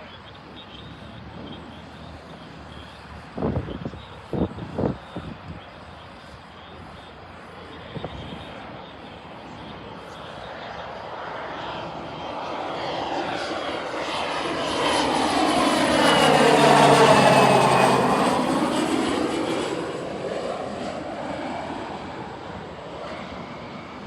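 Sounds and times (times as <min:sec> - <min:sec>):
aircraft flying past: 0:00.0 - 0:24.0
high engine whine: 0:00.0 - 0:24.0.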